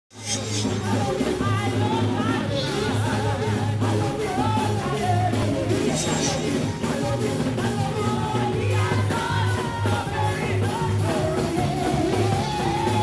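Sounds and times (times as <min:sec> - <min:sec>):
keyboard-led band: 0:00.1 - 0:13.0
woman singing lead: 0:00.2 - 0:13.0.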